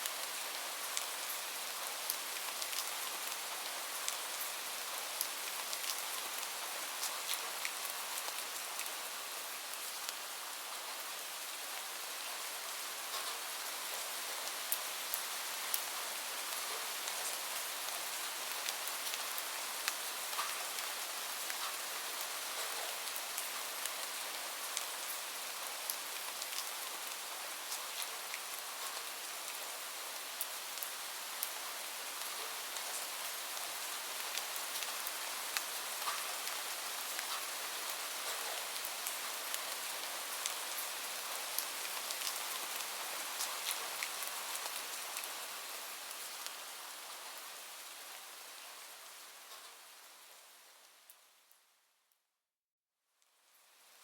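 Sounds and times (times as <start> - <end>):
rain falling: 0.0 - 51.6.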